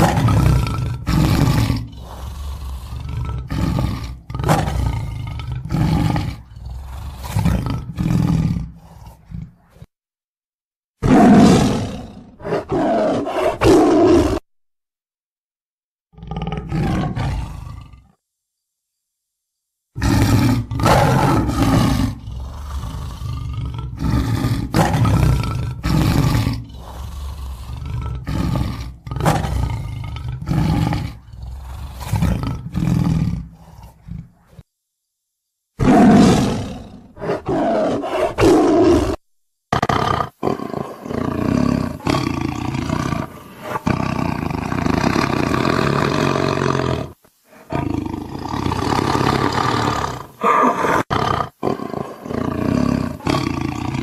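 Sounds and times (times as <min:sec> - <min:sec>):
tiger roaring: 0:00.0 - 0:09.9, 0:11.0 - 0:14.4, 0:16.1 - 0:18.2, 0:20.0 - 0:34.7, 0:35.8 - 0:54.0.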